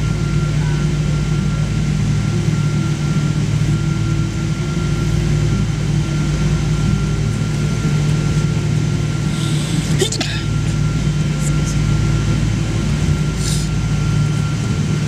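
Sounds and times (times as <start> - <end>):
airplane cabin low hum: 0.0 - 15.0
thin steady whine: 0.0 - 15.0.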